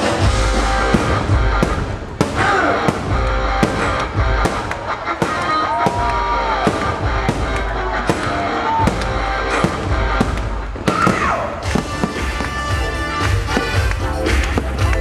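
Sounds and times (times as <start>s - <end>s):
fireworks bangs: 0.0s - 15.0s
loud show music: 0.0s - 15.0s.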